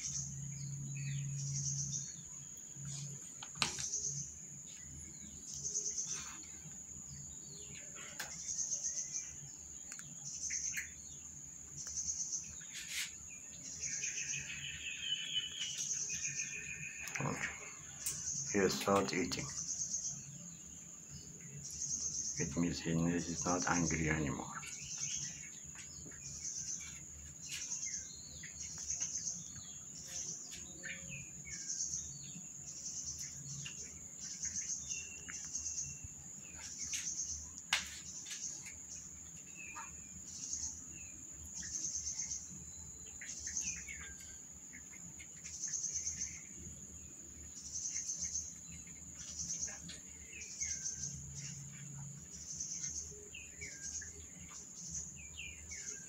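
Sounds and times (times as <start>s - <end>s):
birds chirping: 0.0s - 56.0s
insects chirring: 0.0s - 56.0s.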